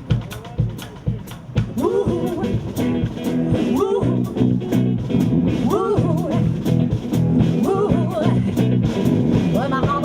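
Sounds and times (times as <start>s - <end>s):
drum kit steady beat: 0.0s - 10.0s
electric guitar with bending notes: 0.0s - 10.0s.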